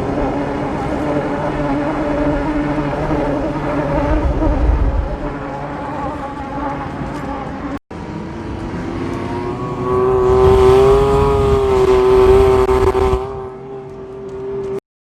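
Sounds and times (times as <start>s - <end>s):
off-road vehicle engine whining: 0.0s - 14.8s.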